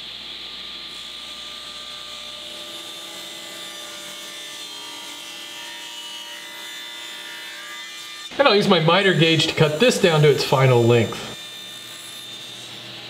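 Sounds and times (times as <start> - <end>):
table saw cutting wood: 0.3 - 13.0.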